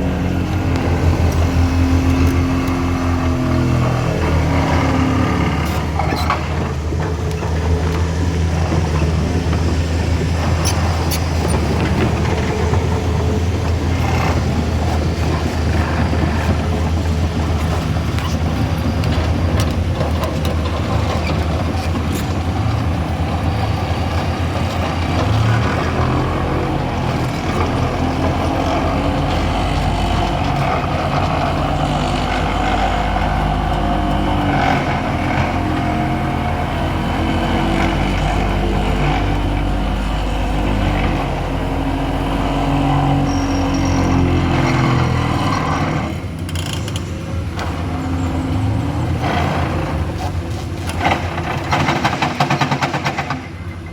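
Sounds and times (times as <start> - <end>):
large vehicle engine running: 0.0 - 53.9.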